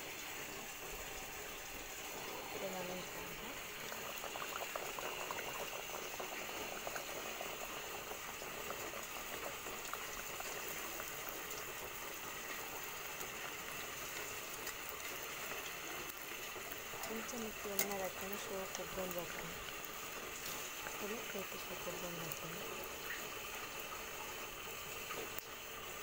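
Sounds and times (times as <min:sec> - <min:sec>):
dough sizzling in hot oil: 0:00.0 - 0:26.0.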